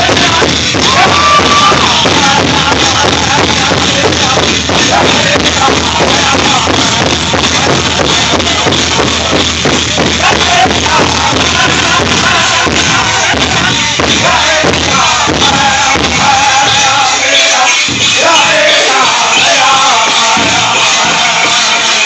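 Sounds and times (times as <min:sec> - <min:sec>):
group singing: 0:00.0 - 0:22.0
large drum beating fast: 0:00.0 - 0:22.0.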